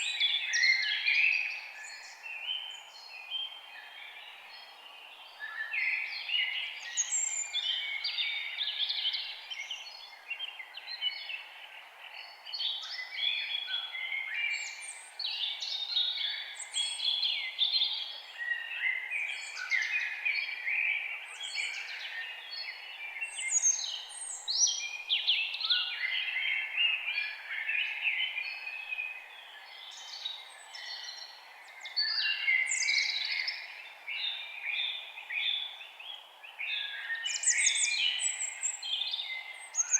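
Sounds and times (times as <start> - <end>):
forest birds chirping and singing: 0.0 - 39.9.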